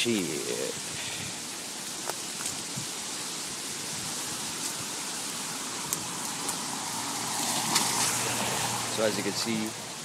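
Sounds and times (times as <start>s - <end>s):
raindrops ticking close by: 0.0s - 10.0s
steady hard rain: 0.0s - 10.0s.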